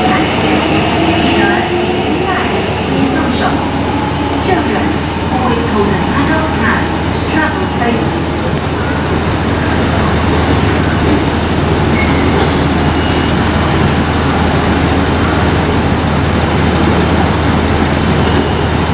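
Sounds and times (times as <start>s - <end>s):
electric train rumbling away: 0.0s - 18.9s.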